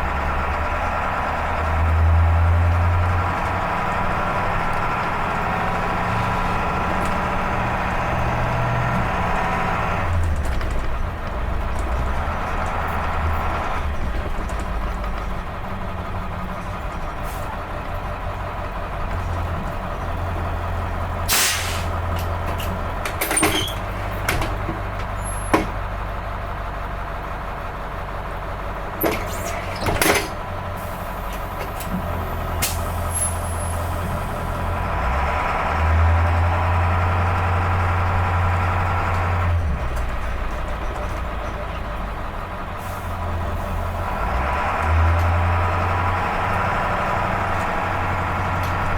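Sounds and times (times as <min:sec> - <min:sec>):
diesel bus engine running: 0:00.0 - 0:48.9.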